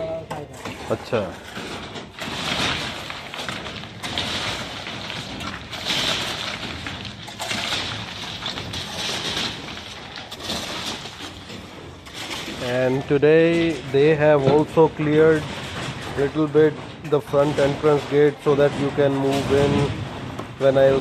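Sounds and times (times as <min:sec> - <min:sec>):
rubble scraping and rustling: 0:00.0 - 0:21.0
knocks: 0:00.3 - 0:21.0.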